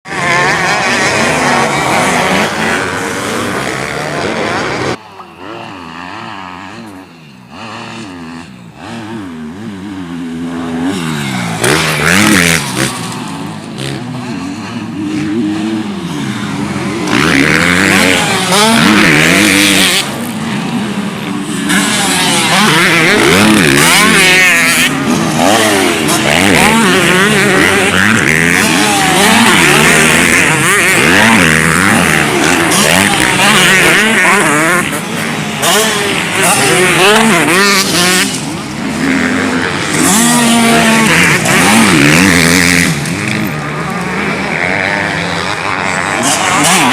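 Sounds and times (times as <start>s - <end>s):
motocross bikes revving: 0.1s - 46.9s.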